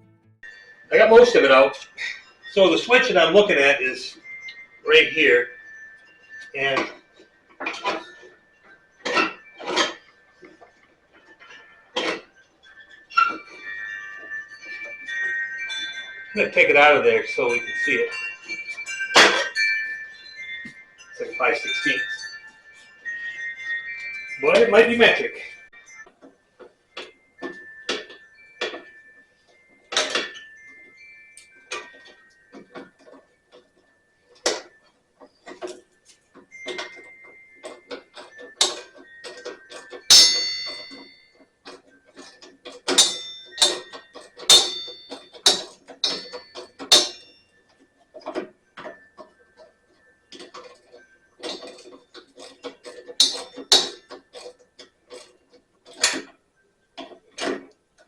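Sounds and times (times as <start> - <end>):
hand tools clinking on metal: 0.4 - 56.4.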